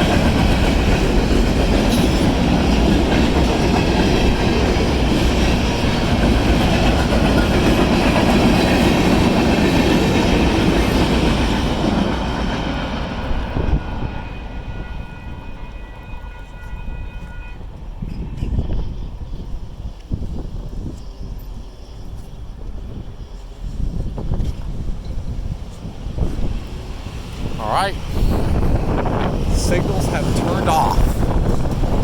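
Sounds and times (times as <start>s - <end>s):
freight train rolling past: 0.0s - 32.0s.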